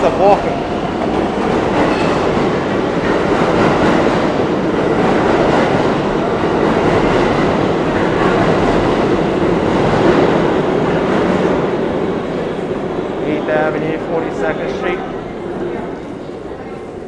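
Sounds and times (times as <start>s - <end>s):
subway train rumbling and rattling: 0.0s - 17.0s.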